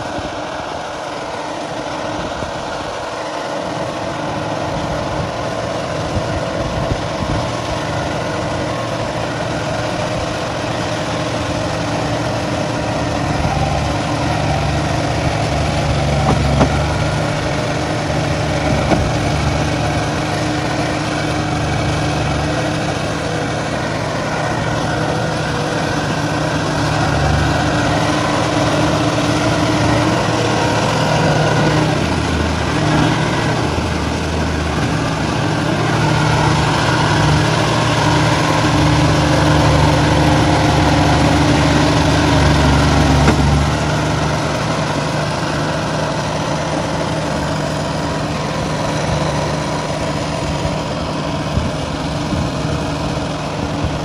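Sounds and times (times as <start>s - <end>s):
tiller machine engine running: 0.0s - 54.0s.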